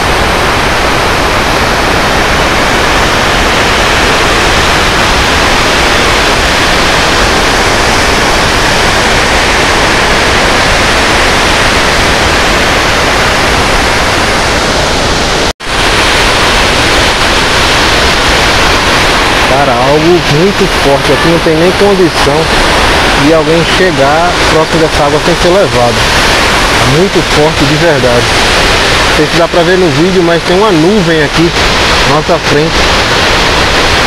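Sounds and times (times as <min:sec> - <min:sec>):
water rushing over spillway: 0:00.0 - 0:34.0.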